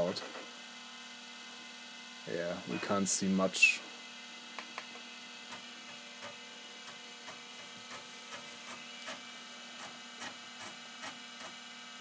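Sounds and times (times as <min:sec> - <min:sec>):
disk drive hum: 0:00.0 - 0:12.0.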